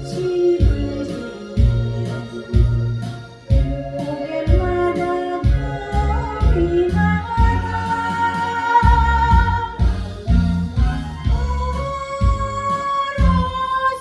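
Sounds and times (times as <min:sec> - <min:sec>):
backing band with steady beat: 0:00.0 - 0:14.0.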